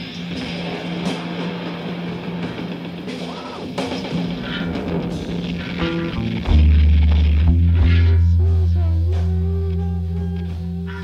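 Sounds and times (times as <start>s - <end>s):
rock band music: 0.0s - 11.0s.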